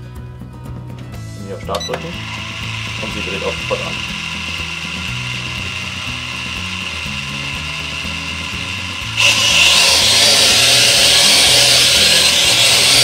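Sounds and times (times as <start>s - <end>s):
drone propellers whining: 1.8s - 13.0s.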